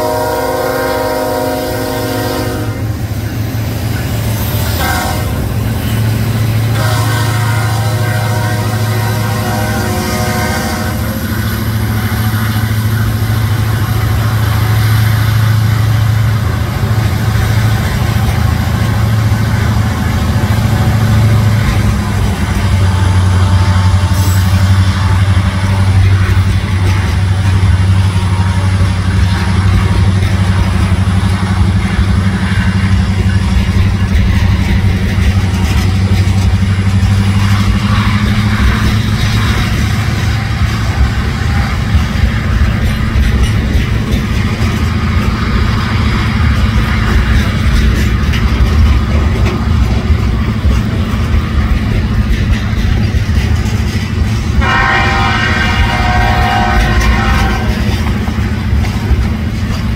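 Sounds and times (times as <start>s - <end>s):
diesel locomotive drone: 0.0s - 59.9s
train wheels rumbling on rail: 0.0s - 59.9s.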